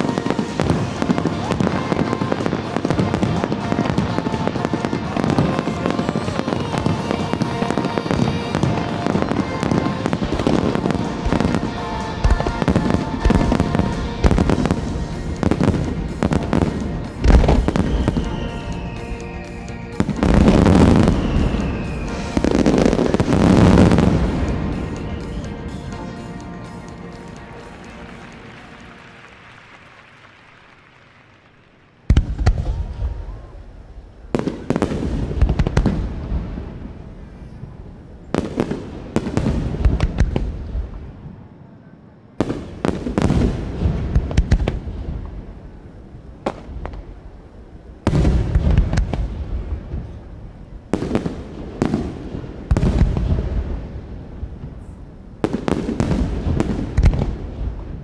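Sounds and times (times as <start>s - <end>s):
fireworks booming: 0.0s - 29.0s, 32.1s - 41.4s, 42.4s - 58.0s
fireworks crackle and rumbling echo: 0.0s - 41.6s, 42.4s - 58.0s.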